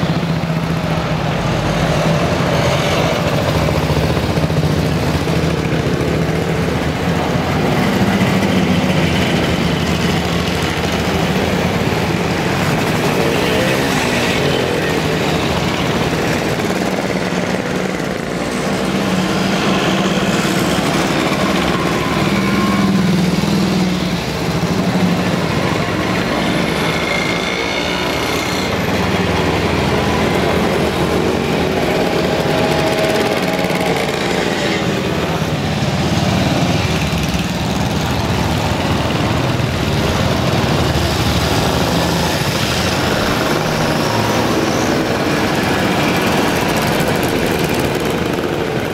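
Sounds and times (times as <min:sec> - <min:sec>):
motorcycles riding past: 0:00.0 - 0:48.9.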